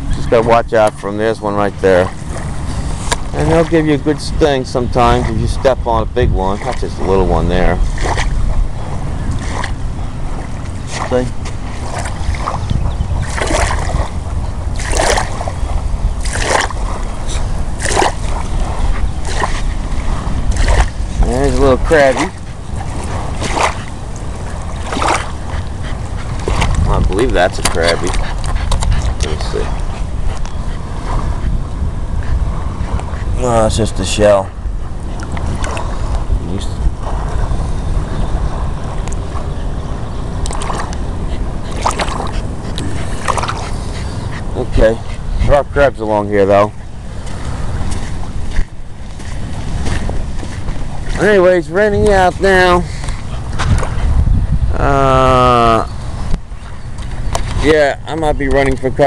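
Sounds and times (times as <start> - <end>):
shoreline water splashing: 0.0 - 59.0
steady low rumble: 0.0 - 59.0
wind buffeting microphone: 0.0 - 59.0.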